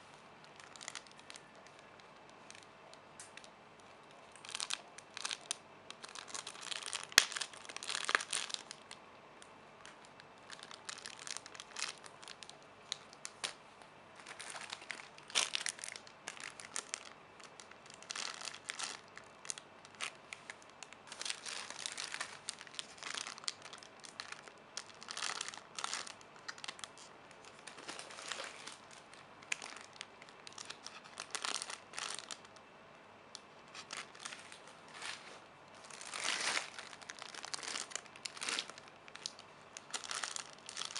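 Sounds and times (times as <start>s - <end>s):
plastic packaging crinkling: 0.4s - 9.0s, 9.8s - 13.6s, 14.2s - 32.7s, 33.4s - 40.9s.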